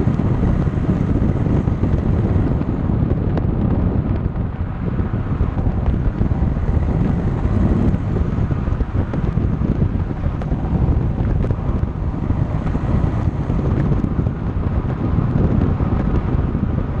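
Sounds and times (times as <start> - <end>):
tyres rumbling on road: 0.0 - 17.0
wind buffeting microphone: 0.0 - 17.0.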